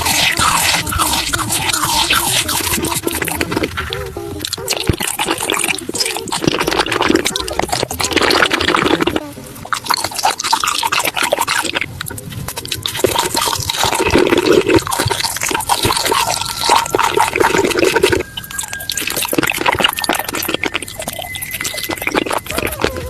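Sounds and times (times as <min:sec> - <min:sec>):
wet chewing and slurping: 0:00.0 - 0:23.0.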